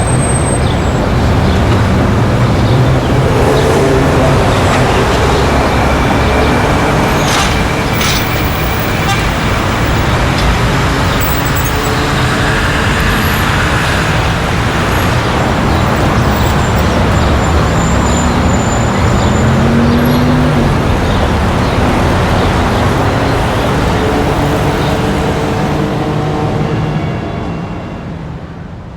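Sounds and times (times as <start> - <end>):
passing road vehicles: 0.0 - 28.9
engine rising in pitch: 1.2 - 27.7.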